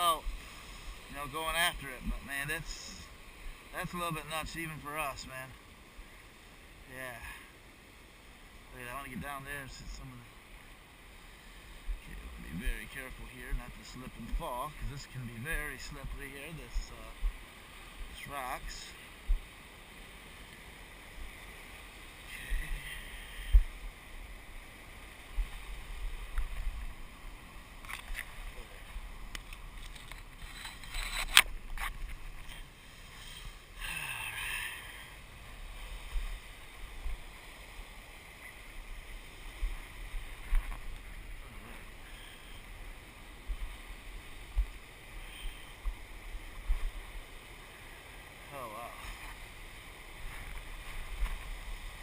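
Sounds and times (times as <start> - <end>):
ocean surf: 0.0 - 52.0.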